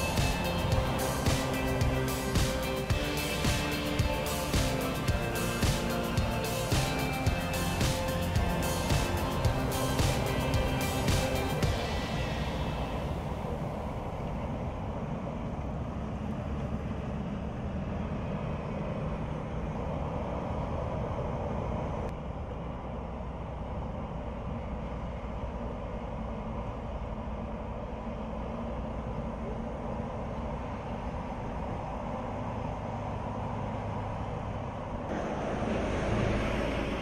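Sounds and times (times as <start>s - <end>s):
coach engine rumble: 0.0s - 37.0s.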